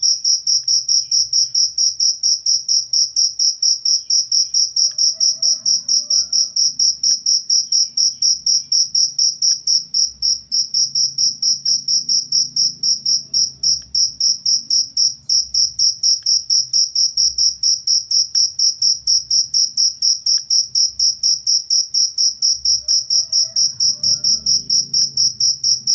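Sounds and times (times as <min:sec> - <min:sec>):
cricket chirping: 0:00.0 - 0:25.9.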